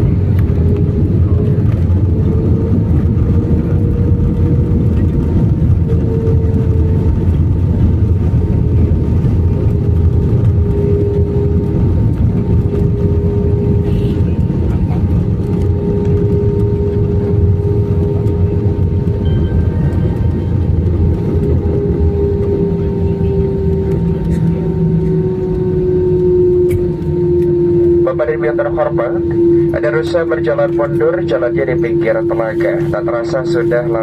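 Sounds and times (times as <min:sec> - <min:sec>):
airliner engines roaring: 0:00.0 - 0:34.0
steady cabin hum: 0:00.0 - 0:34.0.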